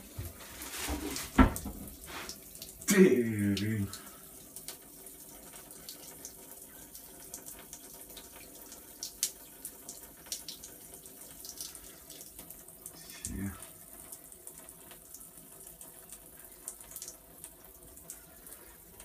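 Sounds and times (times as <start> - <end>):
water drips and splashes: 0.0 - 19.0
water trickling: 0.0 - 19.0.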